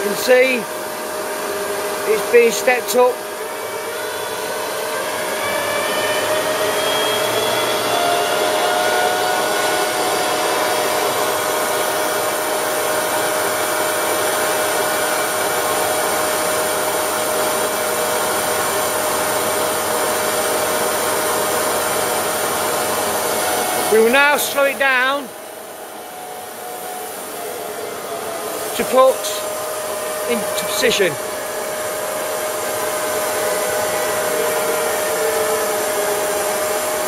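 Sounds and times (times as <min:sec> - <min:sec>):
machine table drive whirring: 0:01.5 - 0:37.0.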